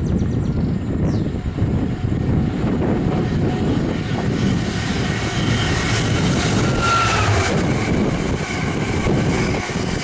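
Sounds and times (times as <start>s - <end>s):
diesel locomotive engine running: 0.0s - 10.0s
train wagons rumbling on rails: 0.0s - 10.0s.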